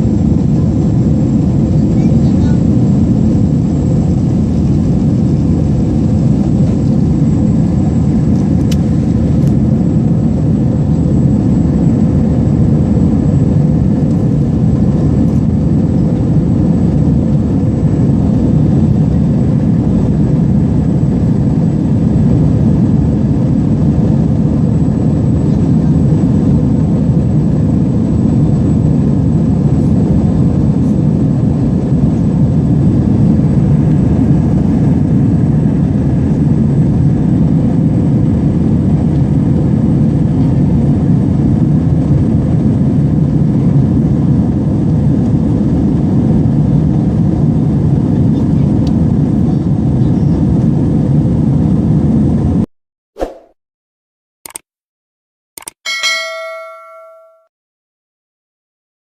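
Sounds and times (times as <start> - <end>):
jet cabin engine and airflow noise: 0.0 - 52.6.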